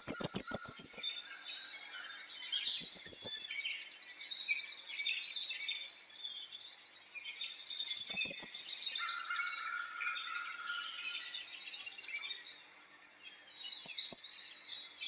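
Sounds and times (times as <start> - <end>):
small birds chirping and trilling: 0.0 - 15.0.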